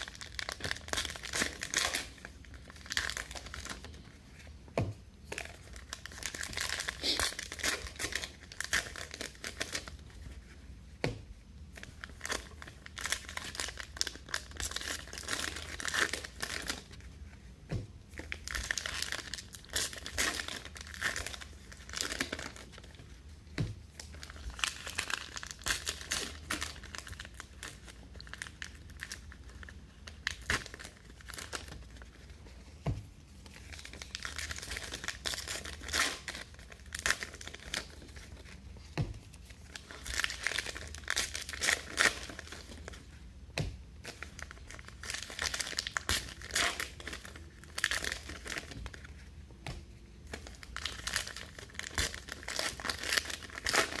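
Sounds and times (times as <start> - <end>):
foil wrappers crinkling and tearing: 0.0 - 4.2, 5.2 - 10.2, 11.8 - 17.0, 18.2 - 23.1, 24.0 - 32.4, 33.5 - 38.7, 39.4 - 43.1, 44.0 - 49.3, 50.3 - 54.0.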